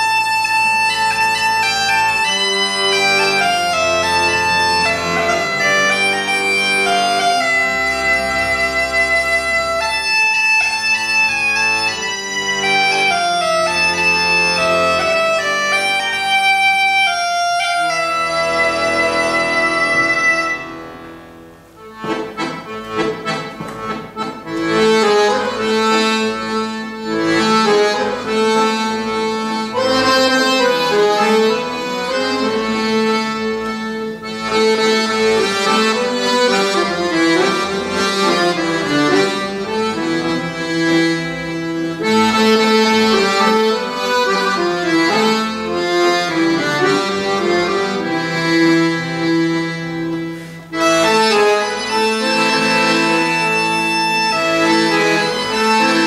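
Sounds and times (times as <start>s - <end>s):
piano accordion playing: 0.0s - 56.0s.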